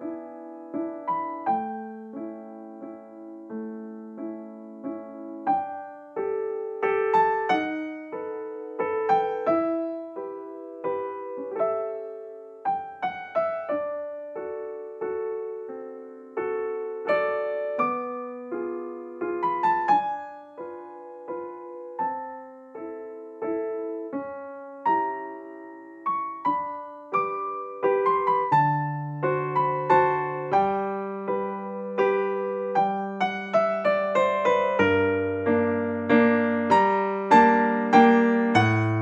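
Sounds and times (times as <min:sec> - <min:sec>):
gentle piano music: 0:00.0 - 0:39.0.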